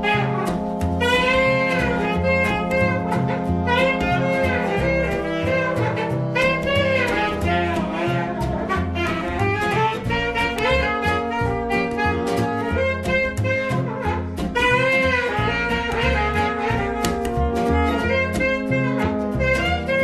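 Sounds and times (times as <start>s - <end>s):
bass line: 0.0s - 20.0s
saxophone and brass: 0.0s - 20.0s.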